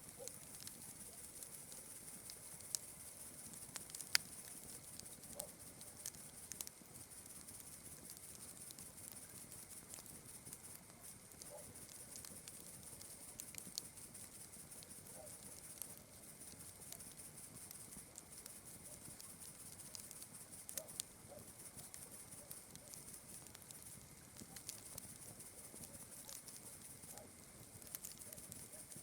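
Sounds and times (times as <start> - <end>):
campfire crackling and popping: 0.0 - 29.0
crickets chirring: 0.0 - 29.0.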